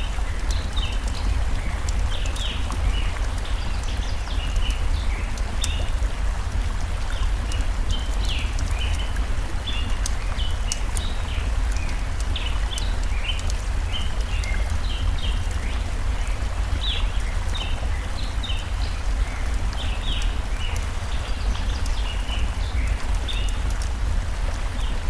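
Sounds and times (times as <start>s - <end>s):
campfire crackling: 0.0s - 25.0s
stream flowing: 0.0s - 25.0s.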